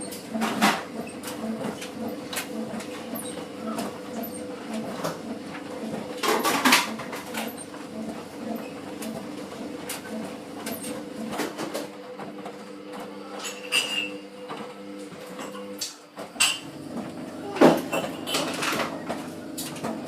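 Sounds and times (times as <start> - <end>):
laundry machine motor hum: 0.0 - 20.0.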